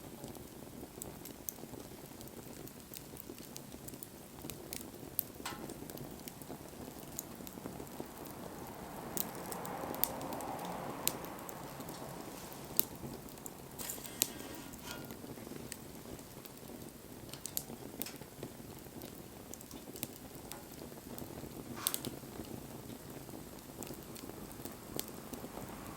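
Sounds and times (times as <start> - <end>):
sharp fire pops: 0.0 - 8.5, 9.2 - 25.5
bonfire crackling: 0.0 - 25.9
fire hiss: 0.0 - 25.9.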